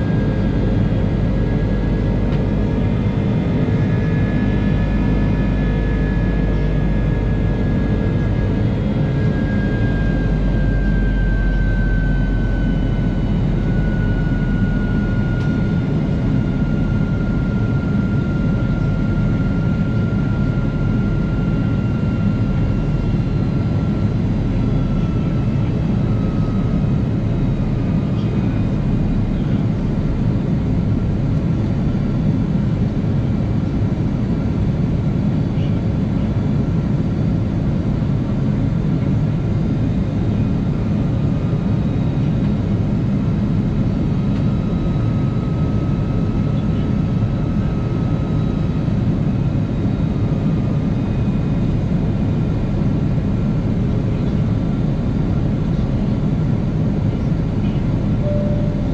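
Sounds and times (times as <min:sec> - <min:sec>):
jet engines whining in cabin: 0:00.0 - 0:58.9.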